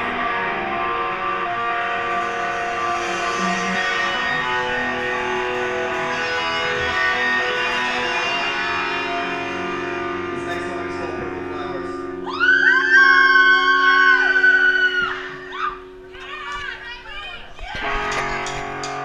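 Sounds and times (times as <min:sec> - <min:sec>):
rock band electric guitars: 0:00.0 - 0:16.6, 0:17.6 - 0:19.0.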